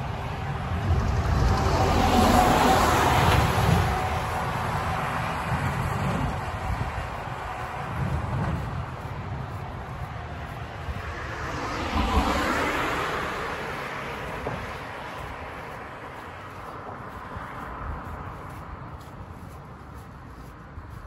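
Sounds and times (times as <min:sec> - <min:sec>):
vehicle passing: 0:00.0 - 0:21.0.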